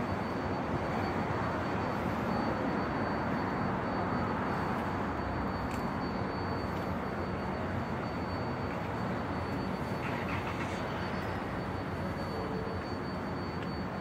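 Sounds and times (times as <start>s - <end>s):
distant traffic rumble: 0.0s - 14.0s
faint high whine: 0.0s - 14.0s.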